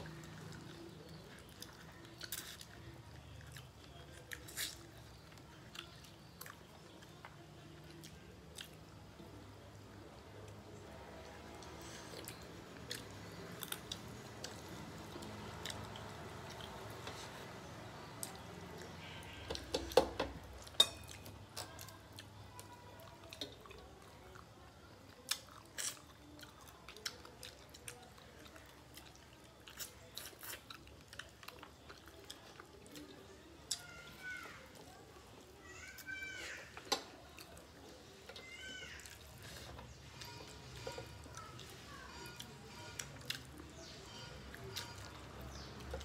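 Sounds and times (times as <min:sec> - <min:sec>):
chewing with lip smacks: 0:00.0 - 0:09.5, 0:11.2 - 0:35.5, 0:36.8 - 0:46.0.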